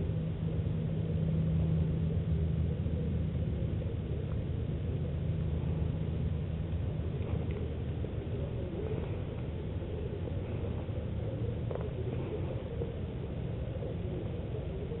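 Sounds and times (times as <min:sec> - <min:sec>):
motor rumble and hum: 0:00.0 - 0:15.0.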